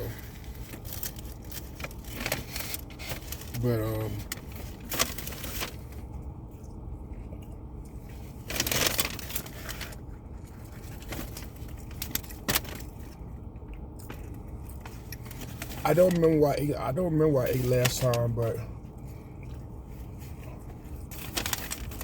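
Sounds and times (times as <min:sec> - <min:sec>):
crinkle: 0:00.0 - 0:13.2, 0:14.0 - 0:16.2, 0:19.9 - 0:22.0
rustling handling noises: 0:00.0 - 0:13.3, 0:14.0 - 0:22.0
steady low hum: 0:00.0 - 0:22.0.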